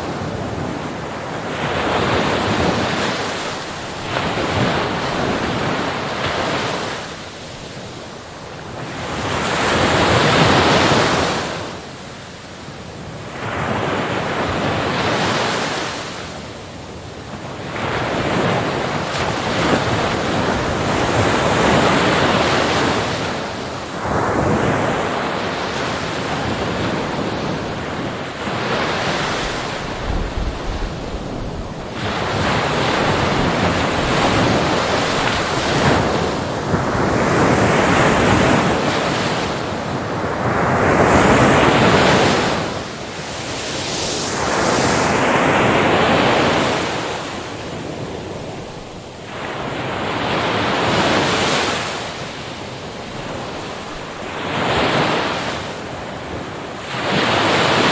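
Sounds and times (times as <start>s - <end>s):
ocean waves breaking: 0.0s - 12.4s, 17.3s - 57.9s.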